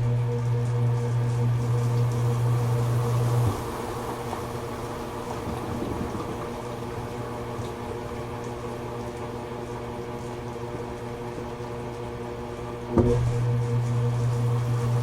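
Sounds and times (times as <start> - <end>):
washing machine low hum: 0.0 - 15.0
water churning in washing machine: 0.0 - 15.0.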